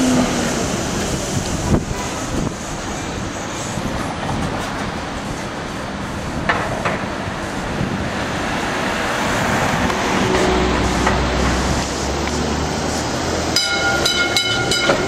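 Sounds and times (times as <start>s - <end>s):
tram moving slowly: 0.0s - 15.0s
tyres on wet road: 0.0s - 15.0s.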